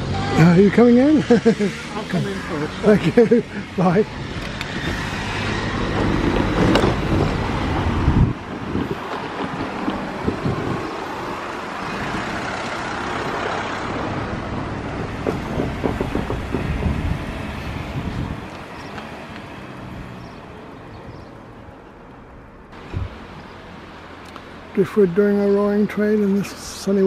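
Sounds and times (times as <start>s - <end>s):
steady vehicle noise: 0.0s - 27.0s
vehicle engine rumbling: 0.0s - 27.0s.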